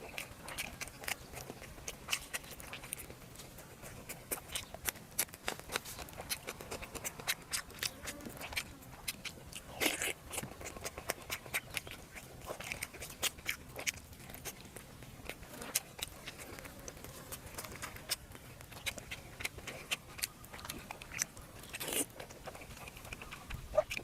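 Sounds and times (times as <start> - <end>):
chewing and biting meat: 0.0 - 24.0
loud crunch: 0.0 - 24.0.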